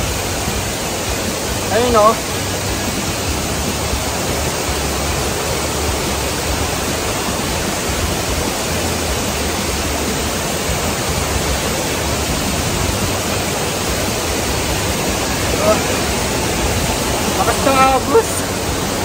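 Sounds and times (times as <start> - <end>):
waterfall and rapids roaring: 0.0 - 19.0.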